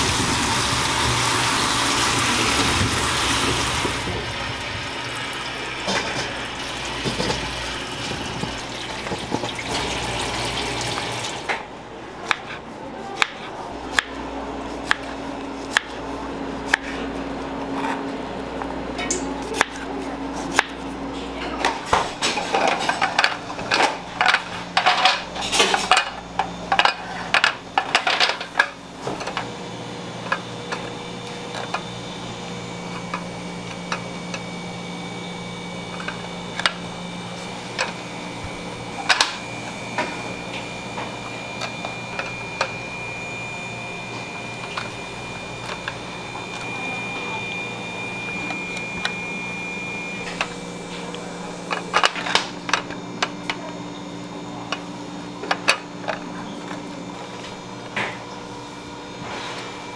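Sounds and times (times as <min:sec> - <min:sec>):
kitchen equipment hum: 0:00.0 - 0:59.9.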